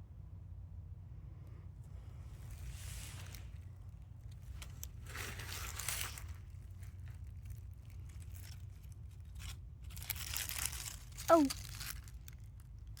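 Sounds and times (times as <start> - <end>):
low steady rumble: 0.0 - 13.0
rustling and crinkling: 1.9 - 13.0.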